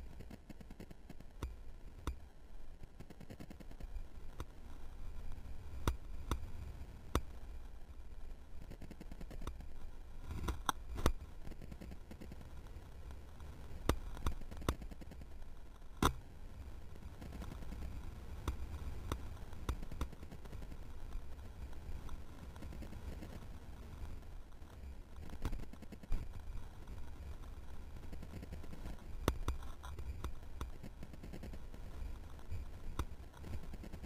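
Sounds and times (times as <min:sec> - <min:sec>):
muffled rumble of skiing: 0:00.0 - 0:34.0.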